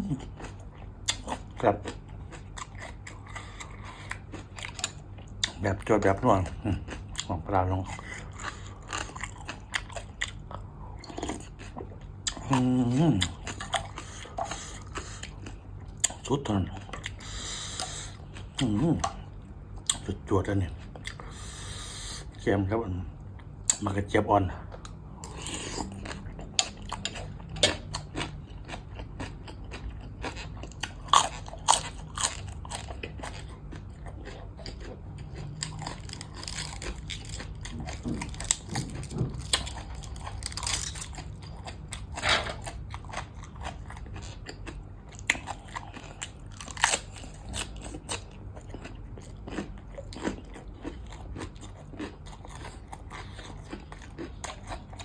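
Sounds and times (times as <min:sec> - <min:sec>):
person chewing crisp okra: 0:00.0 - 0:22.4, 0:23.3 - 0:55.0.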